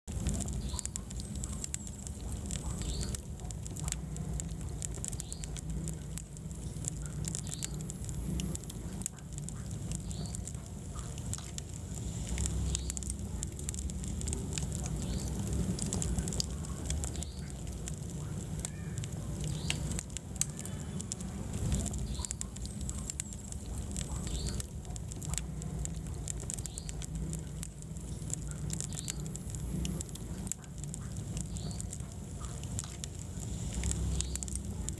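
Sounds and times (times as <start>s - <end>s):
fire crackling and popping: 0.0s - 34.9s
low rumble of flames: 0.0s - 34.9s.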